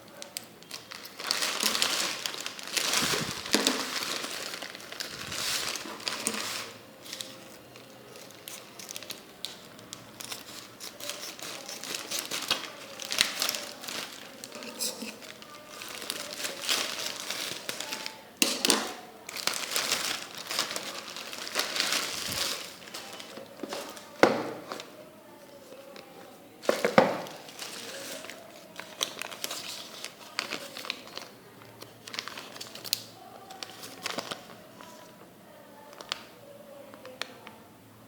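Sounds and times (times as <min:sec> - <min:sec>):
plastic packaging crinkling: 0:00.0 - 0:35.2, 0:35.8 - 0:37.5.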